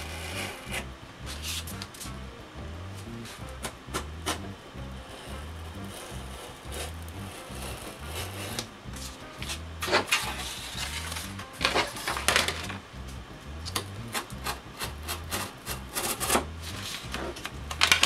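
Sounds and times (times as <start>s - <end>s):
background music with bass line: 0.0s - 18.0s.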